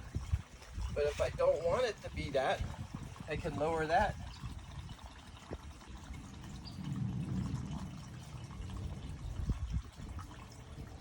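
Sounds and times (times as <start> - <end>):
water rushing into skimmer: 0.0 - 11.0.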